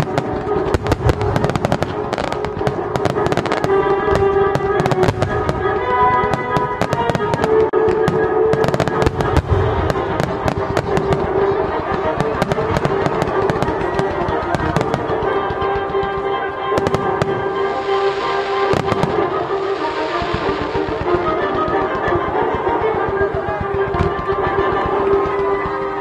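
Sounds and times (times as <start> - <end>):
fireworks bursting and crackling: 0.0 - 26.0
music playing: 0.0 - 26.0.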